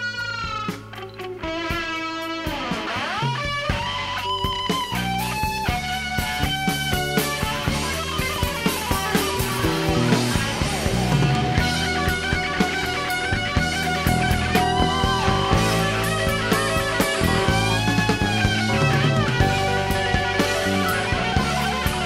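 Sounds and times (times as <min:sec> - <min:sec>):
live progressive rock band: 0:00.0 - 0:22.0.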